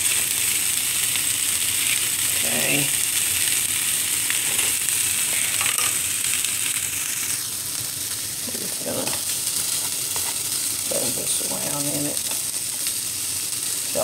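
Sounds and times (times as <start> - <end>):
sausage sizzling in a skillet: 0.0 - 14.0.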